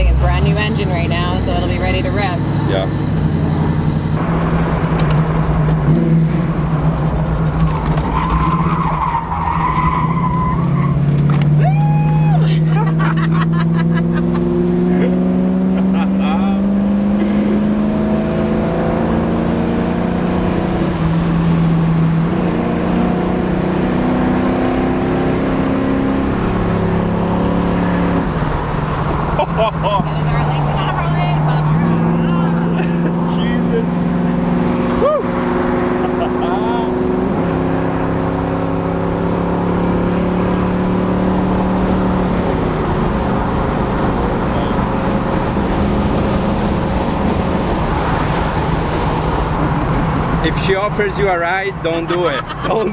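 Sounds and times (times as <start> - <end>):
car engine running hard: 0.0 - 52.9.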